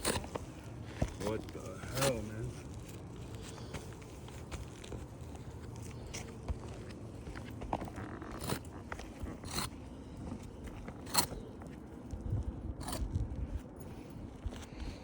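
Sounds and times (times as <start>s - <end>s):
short scrapes and scuffs: 0.0s - 14.7s.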